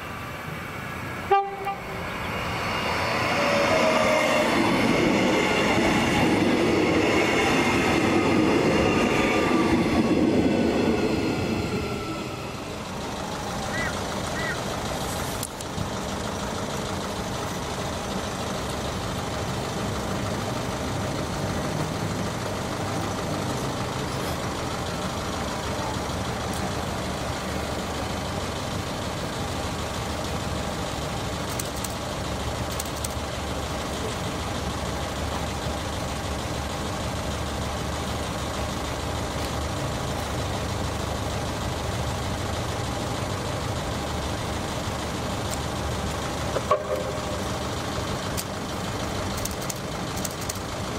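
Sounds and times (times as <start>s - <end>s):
vehicle engines idling: 0.0s - 50.9s.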